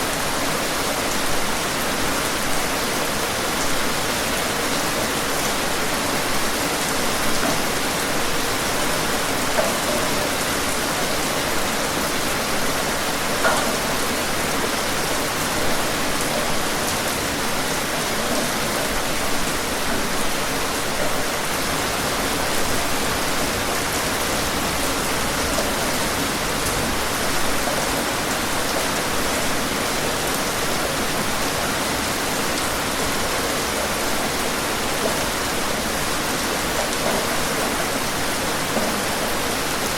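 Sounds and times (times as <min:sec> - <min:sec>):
rain falling on surface: 0:00.0 - 0:39.9.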